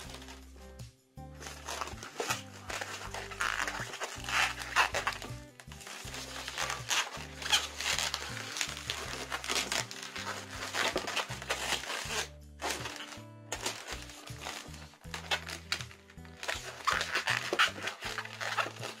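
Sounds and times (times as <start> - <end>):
balloons rubbing and squeaking: 0.0 - 0.5, 1.4 - 19.0
background music: 0.0 - 19.0.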